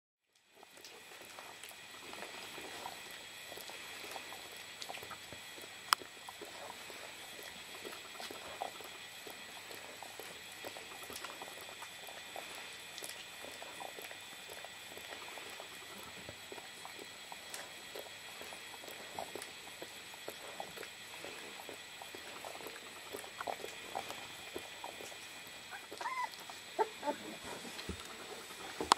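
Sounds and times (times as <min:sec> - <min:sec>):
dogs licking wetly: 0:00.3 - 0:28.9.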